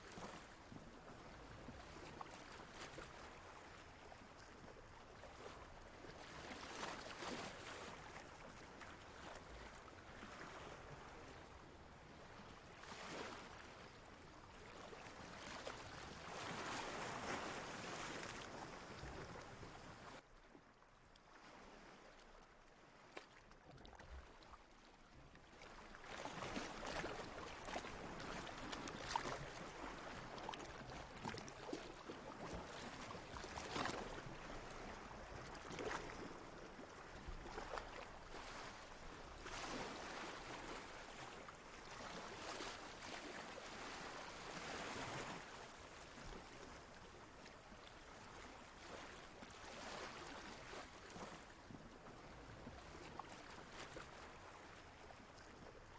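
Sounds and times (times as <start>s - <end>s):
small waves lapping: 0.0s - 55.9s.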